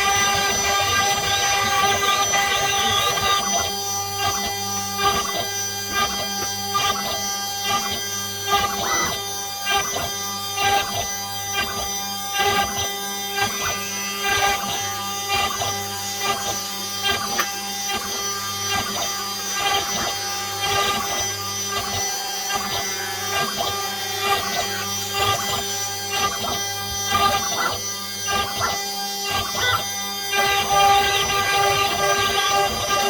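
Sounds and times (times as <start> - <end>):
engraving machine motors humming: 0.0 - 33.0.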